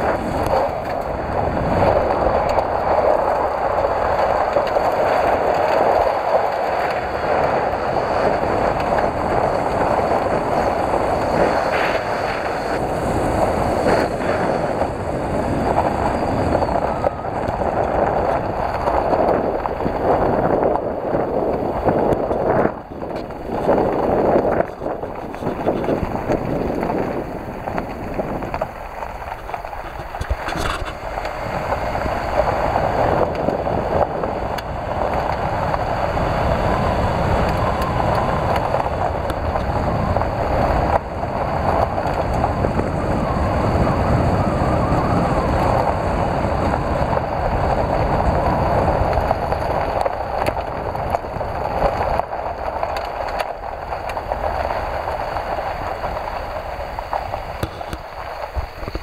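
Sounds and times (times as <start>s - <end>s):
low road rumble: 0.0s - 59.0s
tyres crunching on gravel: 0.0s - 59.0s.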